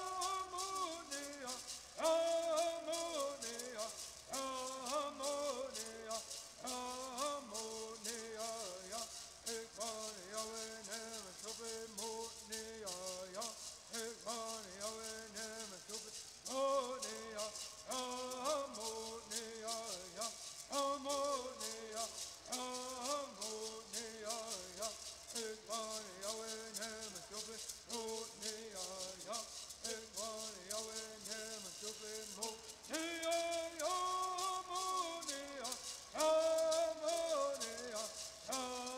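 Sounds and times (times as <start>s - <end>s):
gourd rattles shaken: 0.0s - 38.9s
voices singing together: 0.0s - 38.9s.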